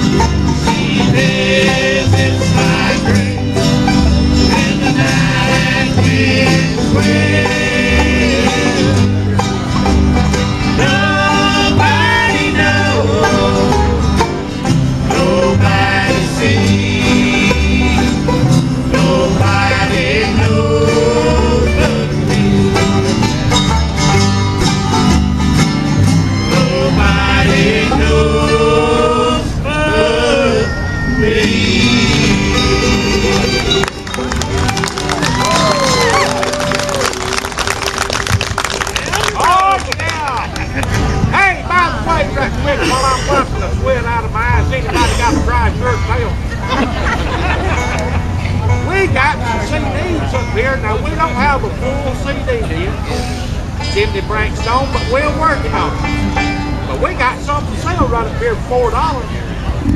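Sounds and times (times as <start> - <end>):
bluegrass band playing: 0.0 - 59.9.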